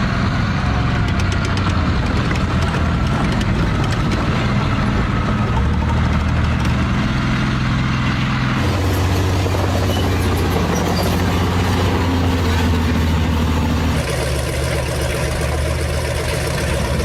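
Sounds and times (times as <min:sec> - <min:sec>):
heavy engine running: 0:00.0 - 0:17.0.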